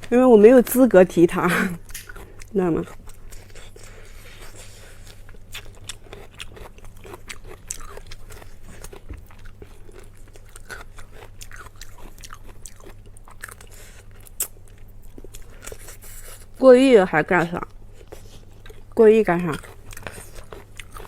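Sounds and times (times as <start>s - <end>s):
low steady hum: 0.0s - 21.0s
biting and chewing: 1.7s - 16.5s, 17.6s - 21.0s.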